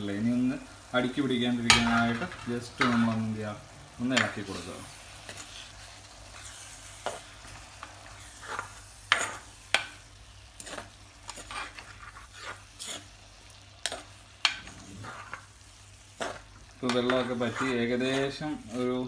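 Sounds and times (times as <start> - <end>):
faint sizzle: 0.0 - 19.0
spoon stirring and scraping pan: 0.7 - 19.0.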